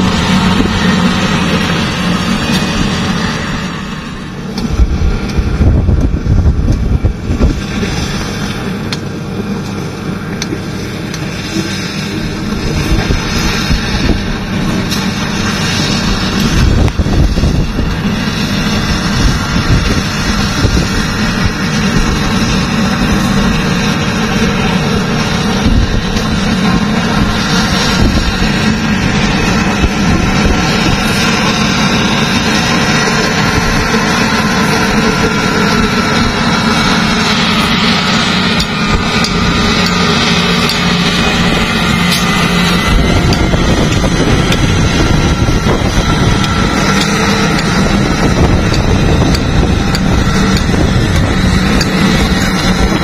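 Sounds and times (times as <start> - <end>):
wheel loader diesel engine: 0.0 - 53.0.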